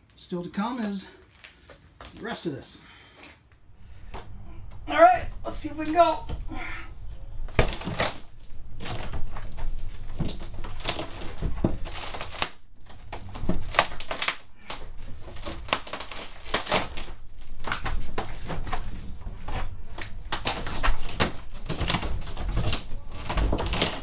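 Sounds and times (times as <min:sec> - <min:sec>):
plywood crackling and tearing: 0:03.7 - 0:24.0.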